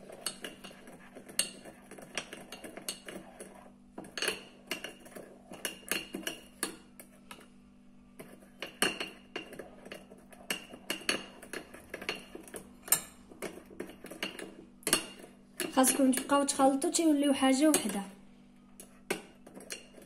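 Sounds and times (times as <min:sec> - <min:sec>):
metal spoon stirring paste in dish: 0:00.0 - 0:18.1, 0:18.7 - 0:20.0.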